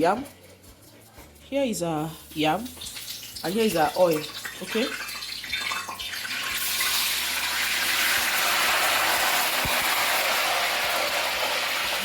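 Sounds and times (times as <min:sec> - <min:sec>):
food frying in hot oil: 0:02.3 - 0:12.0.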